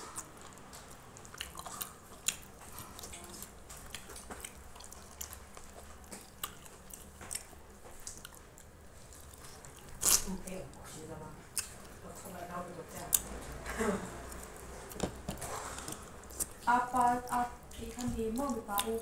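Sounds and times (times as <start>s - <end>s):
person chewing crunchy fried chicken: 0.0s - 10.4s, 13.0s - 19.0s.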